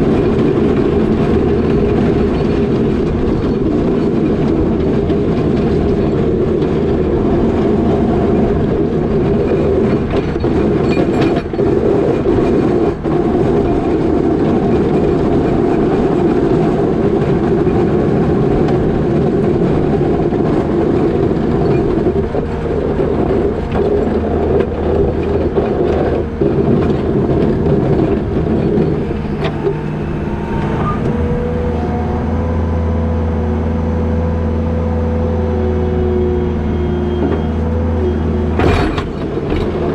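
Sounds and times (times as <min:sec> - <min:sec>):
rattling clatter: 0:00.0 - 0:31.8, 0:37.3 - 0:39.9
diesel engine running hard: 0:00.0 - 0:39.9.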